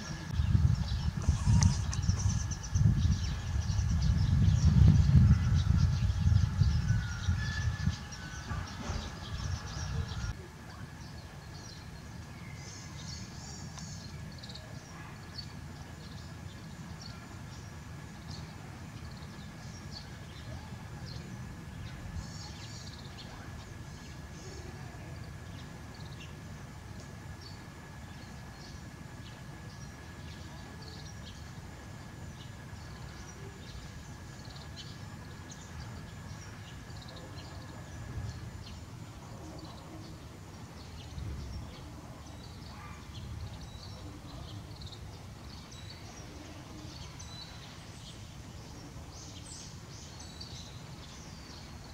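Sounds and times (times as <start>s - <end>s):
faint high whine: 0.0s - 51.9s
low steady rumble: 0.0s - 51.9s
small birds chirping: 0.0s - 51.9s.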